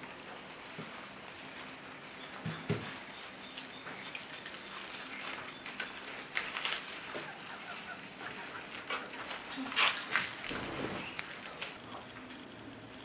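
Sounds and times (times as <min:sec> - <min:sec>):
dry corn husks rustling and crackling: 0:00.1 - 0:11.8.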